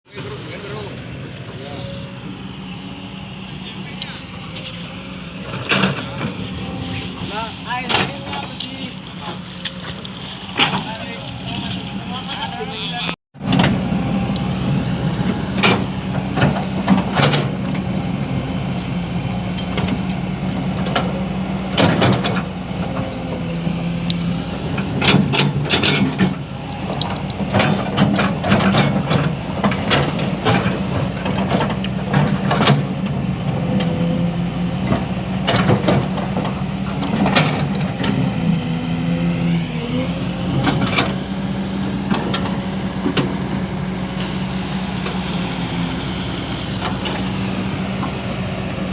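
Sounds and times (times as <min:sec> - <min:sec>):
excavator diesel engine running: 0:00.2 - 0:48.9.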